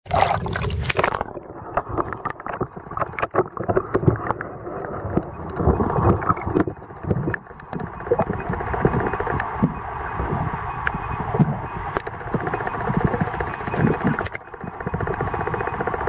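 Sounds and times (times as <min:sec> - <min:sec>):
underwater rush of water: 0:00.0 - 0:14.4.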